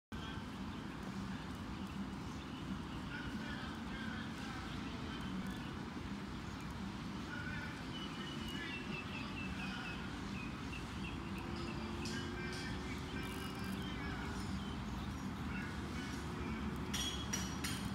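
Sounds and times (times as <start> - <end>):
low outdoor rumble: 0.1 - 17.9
birds chirping: 0.2 - 17.9.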